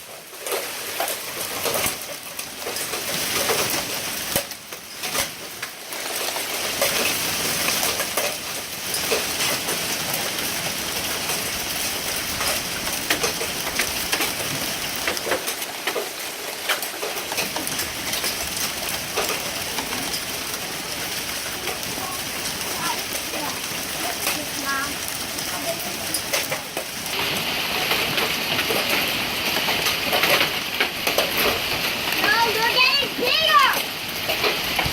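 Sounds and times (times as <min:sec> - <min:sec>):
hailstones ticking on hard surfaces: 0:00.0 - 0:34.9
hiss of precipitation: 0:00.0 - 0:34.9.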